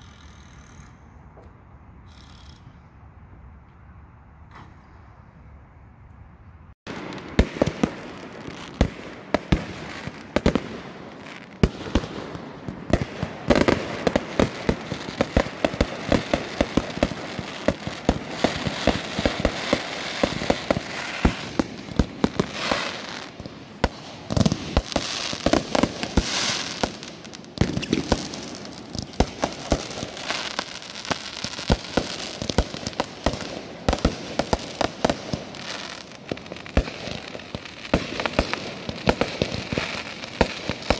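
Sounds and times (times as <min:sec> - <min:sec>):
crackling hiss: 0:06.9 - 0:40.9
fireworks bangs and pops: 0:06.9 - 0:40.9.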